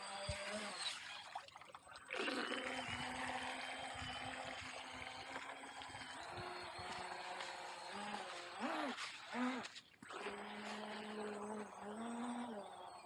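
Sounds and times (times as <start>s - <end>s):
thin motor whine: 0.0s - 13.0s.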